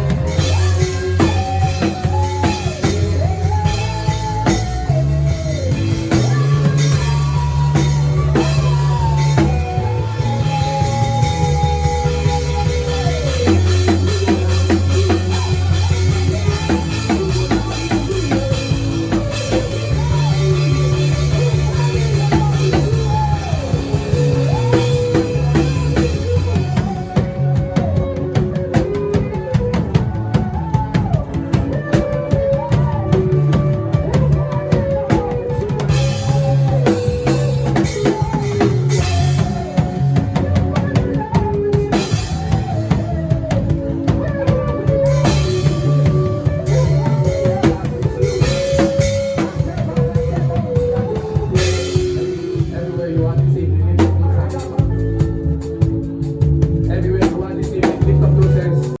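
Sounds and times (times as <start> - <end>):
backing music with bass: 0.0 - 59.0
drum kit playing: 0.0 - 59.0.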